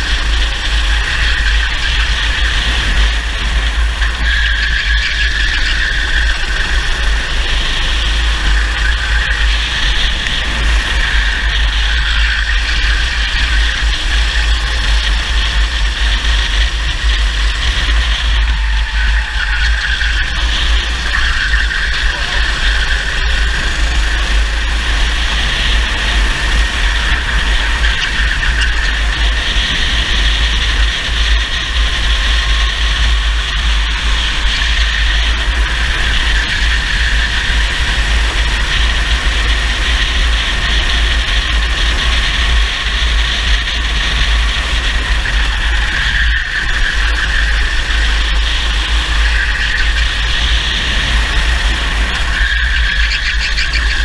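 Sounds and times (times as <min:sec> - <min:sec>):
kart engine at high revs: 0:00.0 - 0:54.0
wind buffeting on camera: 0:00.0 - 0:54.0.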